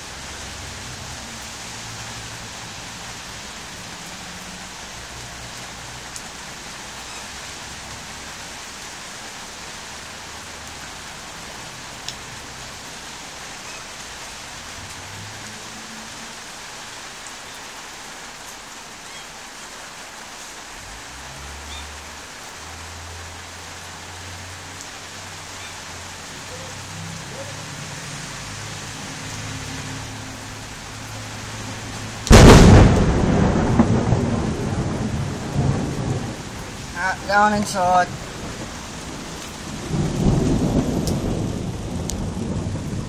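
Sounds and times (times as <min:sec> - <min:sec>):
rain on concrete and puddles: 0:00.0 - 0:43.0.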